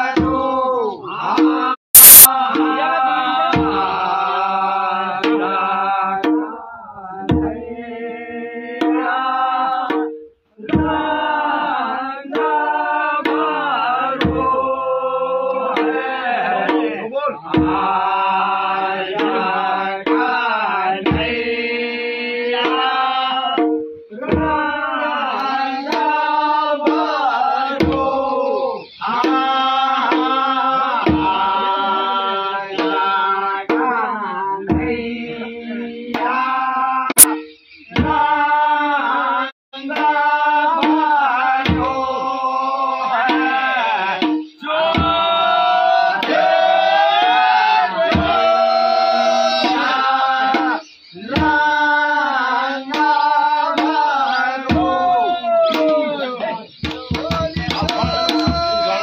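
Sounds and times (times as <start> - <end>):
barrel drum beat: 0.0 - 0.7, 1.3 - 6.6, 7.2 - 7.8, 8.8 - 11.4, 12.3 - 21.8, 22.6 - 28.4, 29.0 - 34.1, 34.7 - 36.5, 37.1 - 38.4, 40.8 - 42.5, 43.1 - 59.0
men singing together: 0.0 - 59.0.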